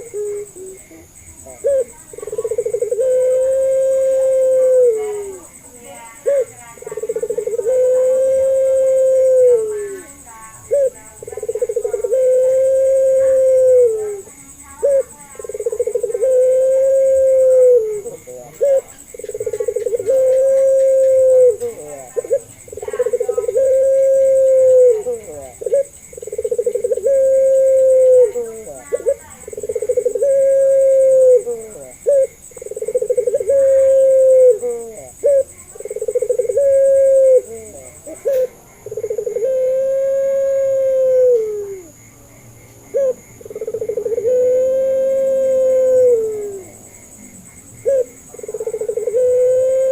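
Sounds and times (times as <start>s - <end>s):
dove cooing: 0.0s - 42.0s, 42.9s - 49.9s.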